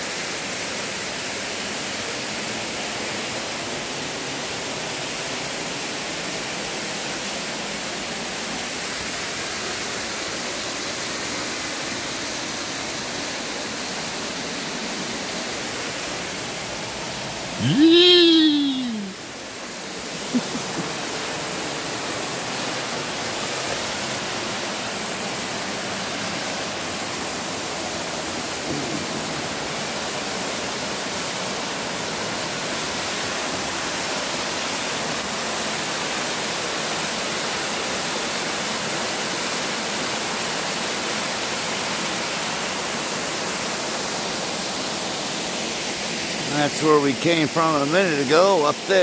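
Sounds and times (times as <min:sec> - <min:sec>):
waterfall cascading over rocks: 0:00.0 - 0:49.0.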